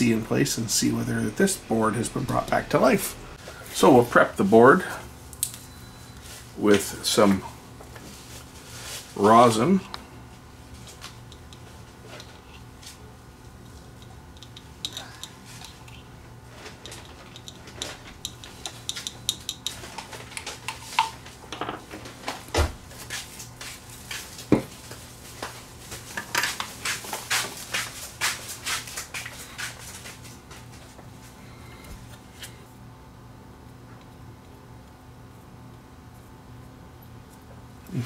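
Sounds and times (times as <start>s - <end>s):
low steady hum: 0.0s - 26.6s, 29.0s - 38.0s.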